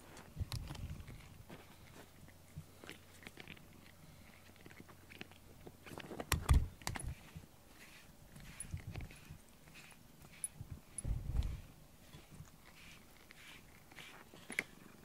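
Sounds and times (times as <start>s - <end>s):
cat chewing rubber brush: 0.5s - 15.0s.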